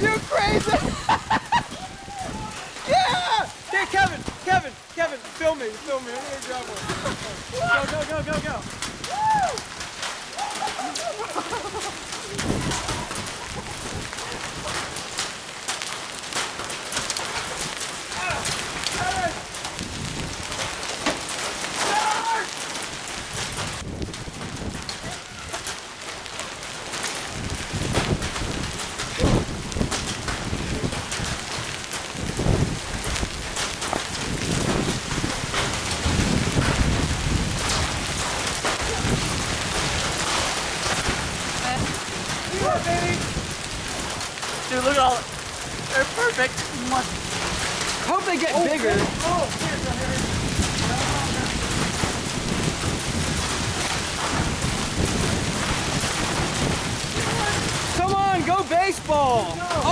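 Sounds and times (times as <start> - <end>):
low gusty rumble: 0.0 - 21.8, 22.5 - 59.9
hailstones clacking on hard surfaces: 0.0 - 59.9
rain hissing: 0.0 - 59.9.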